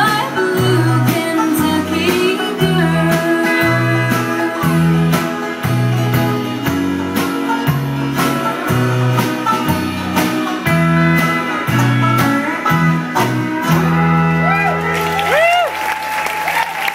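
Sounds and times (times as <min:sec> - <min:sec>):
banjo: 0:00.0 - 0:15.5
acoustic and electric guitars: 0:00.0 - 0:16.8
bass line: 0:00.0 - 0:16.9.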